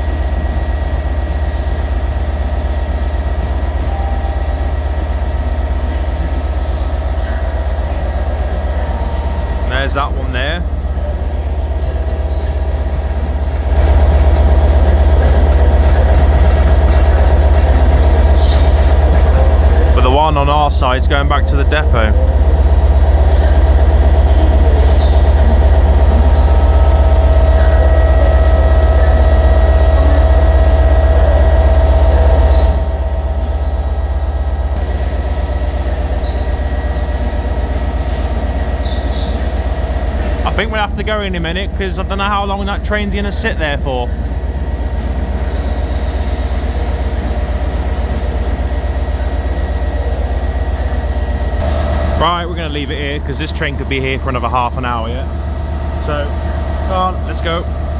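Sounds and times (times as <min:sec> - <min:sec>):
diesel train engine throbbing: 0:00.0 - 0:57.9.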